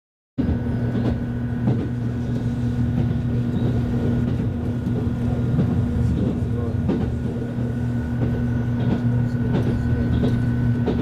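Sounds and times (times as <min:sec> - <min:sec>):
faint knocks from track: 0:00.4 - 0:07.4, 0:08.2 - 0:11.0
train rumbling inside passenger car: 0:00.4 - 0:11.0.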